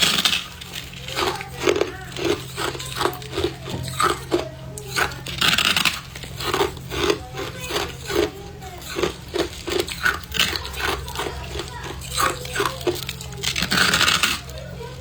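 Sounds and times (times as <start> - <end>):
chewing crunchy frost: 0.0 - 15.0
steady low hum: 0.0 - 15.0.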